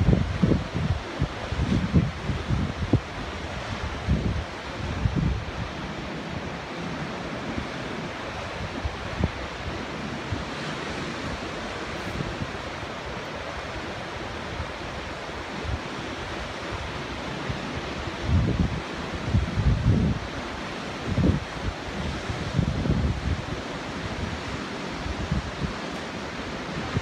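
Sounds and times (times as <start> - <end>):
wind rushing on microphone: 0.0 - 27.0.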